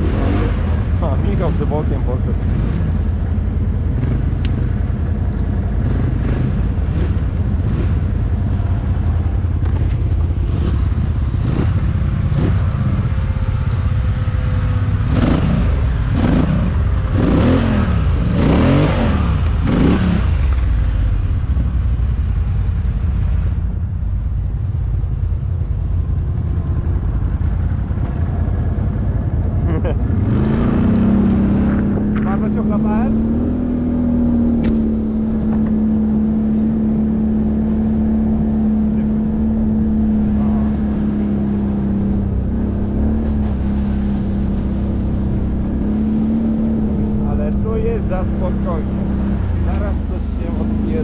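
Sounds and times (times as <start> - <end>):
quad bike engine revving: 0.0 - 4.7, 5.3 - 21.2, 26.5 - 51.0
quad bike engines running: 0.0 - 51.0.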